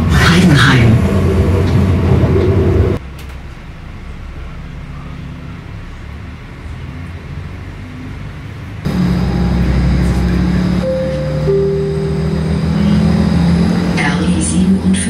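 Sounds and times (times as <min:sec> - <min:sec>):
train running rumble: 0:00.0 - 0:07.0, 0:08.4 - 0:15.0
loud low rumble: 0:00.0 - 0:07.9, 0:08.8 - 0:15.0.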